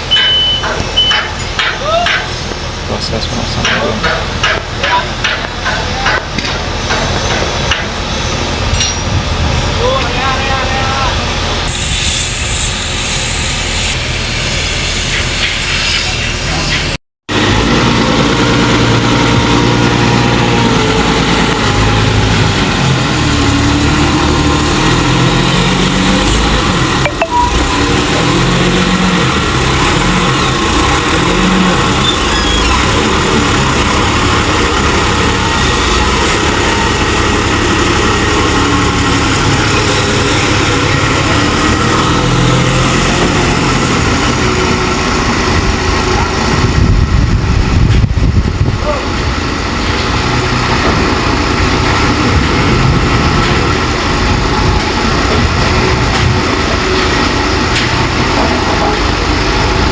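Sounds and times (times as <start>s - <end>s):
heavy machinery engine running: 0.0s - 15.6s, 16.2s - 59.9s.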